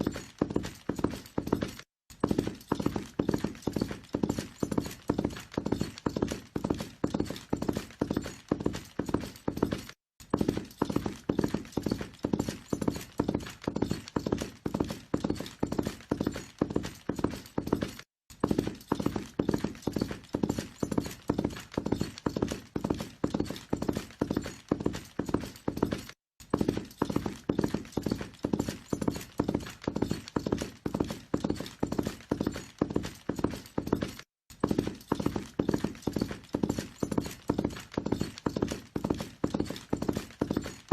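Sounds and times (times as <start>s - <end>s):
horse hooves galloping: 0.0s - 40.9s.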